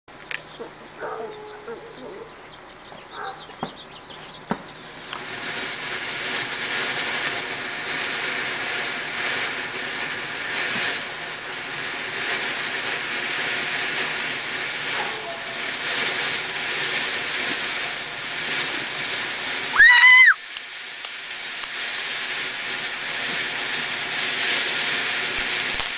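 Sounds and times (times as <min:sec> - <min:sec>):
firework hissing and crackling: 0:00.1 - 0:25.9
whistling firework: 0:02.9 - 0:25.9.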